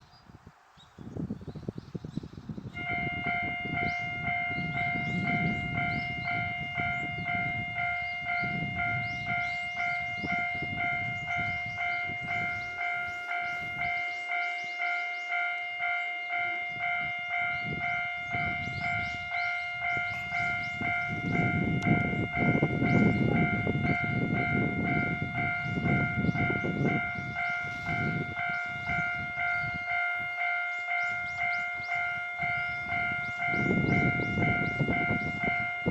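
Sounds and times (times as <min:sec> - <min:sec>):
level crossing warning bell: 0:02.7 - 0:35.9
train rumbling past: 0:02.7 - 0:35.9.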